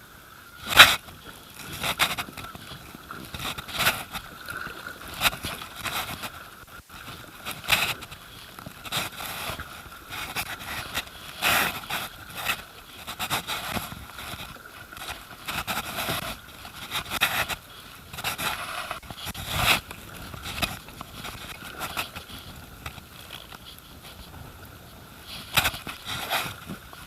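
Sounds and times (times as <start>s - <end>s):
paddle strokes splashing: 0.5s - 27.0s.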